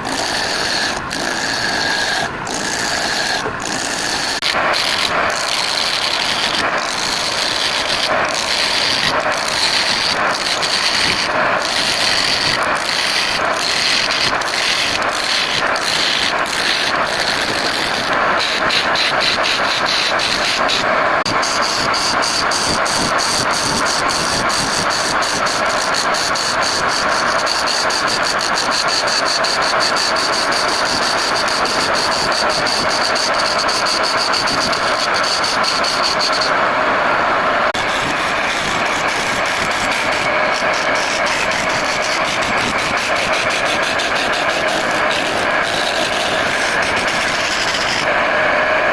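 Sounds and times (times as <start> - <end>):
high whine: 0.0 - 48.9
wood lathe running: 0.0 - 48.9.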